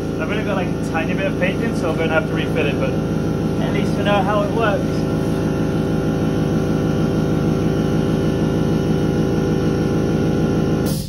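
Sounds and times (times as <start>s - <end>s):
air compressor running: 0.0s - 11.0s.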